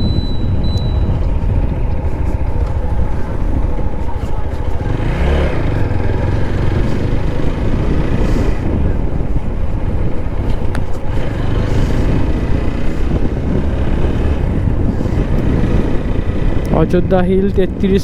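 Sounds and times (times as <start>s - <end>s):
motorcycle engine running: 0.0s - 18.0s
wind on microphone: 0.0s - 18.0s.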